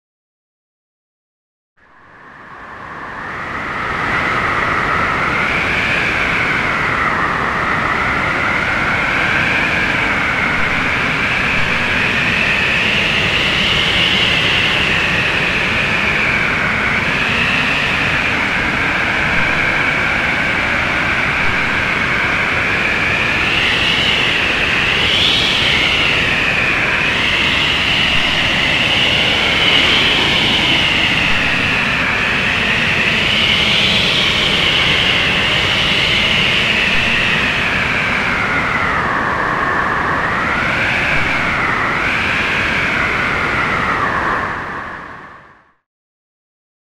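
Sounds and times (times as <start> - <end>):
high wind whistle wavering: 1.8 - 45.7
strong wind howling: 1.8 - 45.8.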